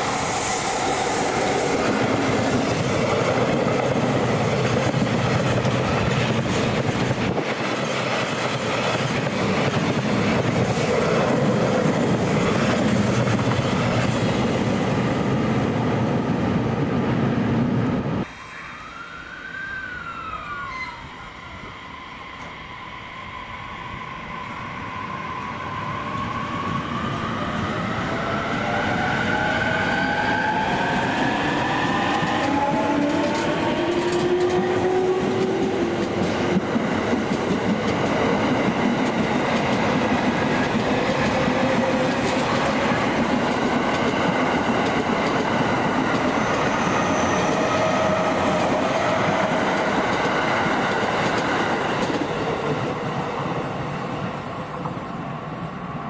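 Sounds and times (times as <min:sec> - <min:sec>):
train wheels rumbling and clacking: 0:00.0 - 0:15.9, 0:26.1 - 0:55.9.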